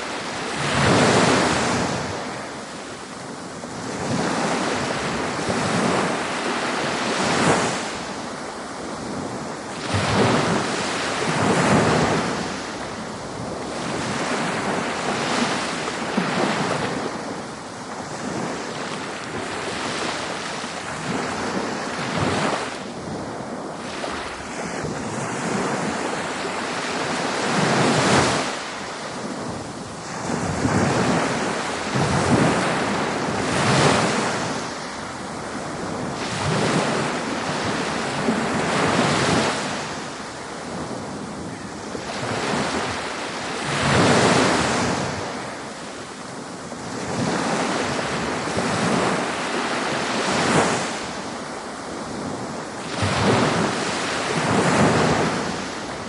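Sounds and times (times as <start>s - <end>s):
ocean waves breaking on beach: 0.0s - 56.0s
wind noise: 0.0s - 56.0s.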